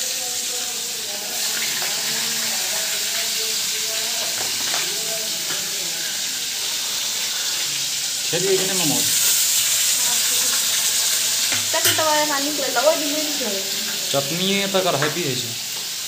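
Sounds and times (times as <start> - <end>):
steady hissing: 0.0 - 16.0.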